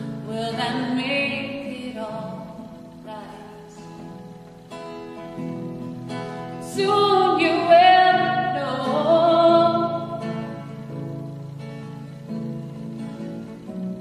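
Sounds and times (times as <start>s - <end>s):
plucked acoustic guitar: 0.0s - 14.0s.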